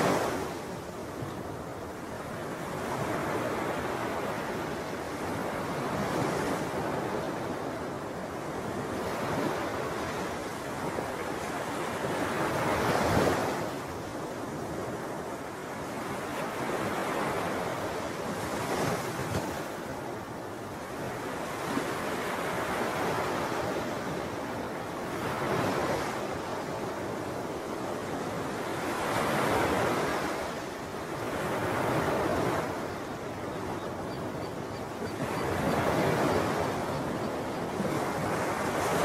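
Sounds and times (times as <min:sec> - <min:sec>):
small waves washing ashore: 0:00.0 - 0:39.0.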